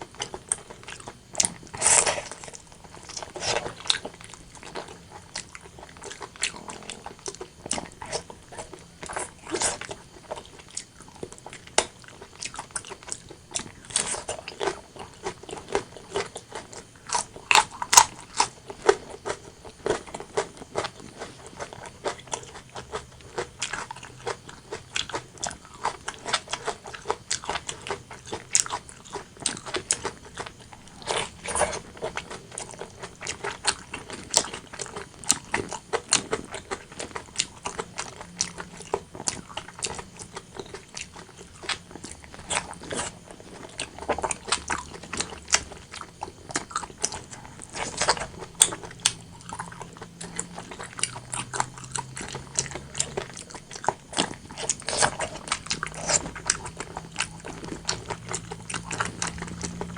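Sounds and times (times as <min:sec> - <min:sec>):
wet chewing and biting: 0:00.0 - 0:59.9.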